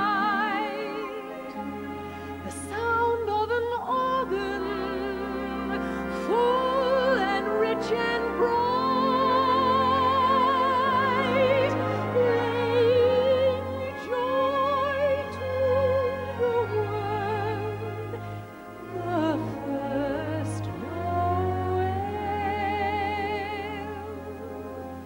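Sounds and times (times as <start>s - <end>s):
woman singing soprano: 0.0s - 24.7s
orchestral accompaniment: 0.0s - 25.0s.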